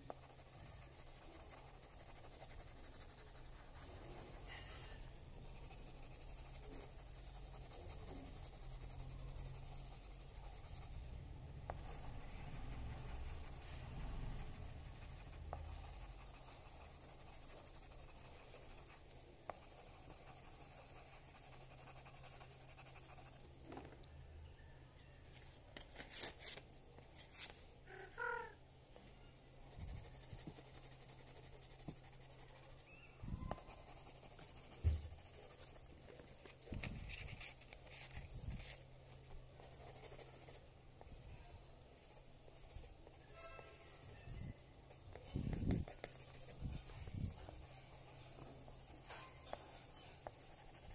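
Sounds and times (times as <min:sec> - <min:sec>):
colored pencil scratching on paper: 0:00.0 - 0:23.6, 0:29.6 - 0:50.9.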